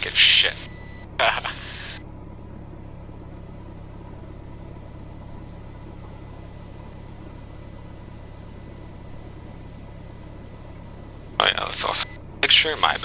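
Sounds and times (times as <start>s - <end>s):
aircraft engine low drone: 0.0s - 13.0s.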